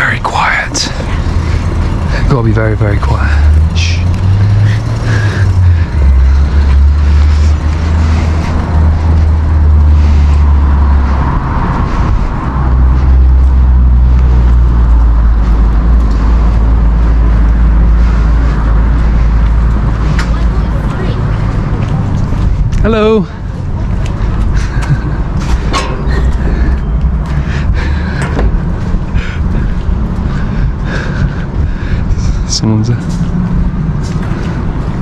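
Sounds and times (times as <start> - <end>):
low rumble: 0.0 - 35.0.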